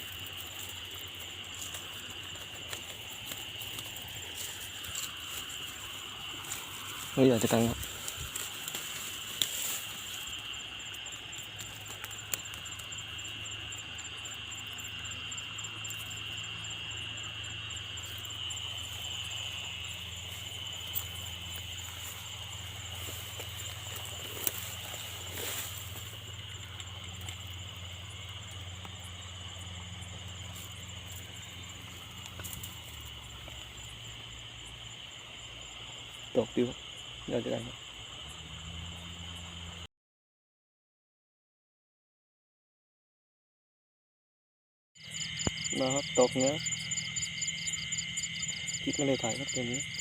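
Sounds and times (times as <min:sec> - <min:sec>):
insects trilling: 0:00.0 - 0:39.9, 0:45.0 - 0:50.0
pulsing insect chirp: 0:00.0 - 0:39.9, 0:45.0 - 0:50.0.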